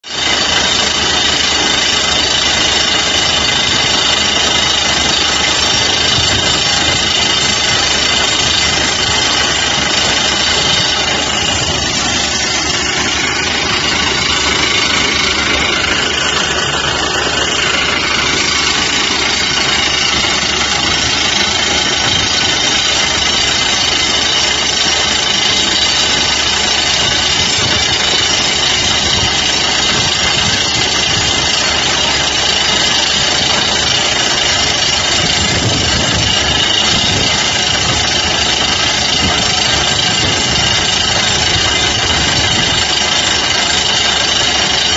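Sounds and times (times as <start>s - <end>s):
diesel engine running: 0.0s - 44.9s
rock drill hammering: 0.0s - 44.9s.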